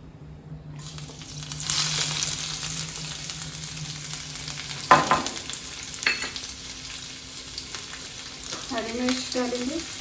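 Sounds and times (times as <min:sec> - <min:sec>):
garlic sizzling in oil: 0:00.8 - 0:10.0.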